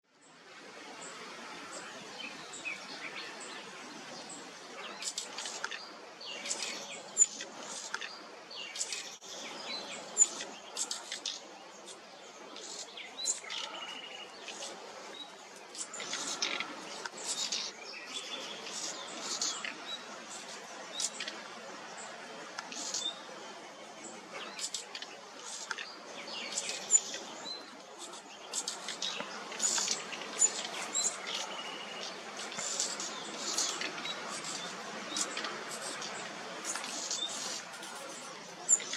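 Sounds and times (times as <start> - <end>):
background hiss: 0.1 - 38.9.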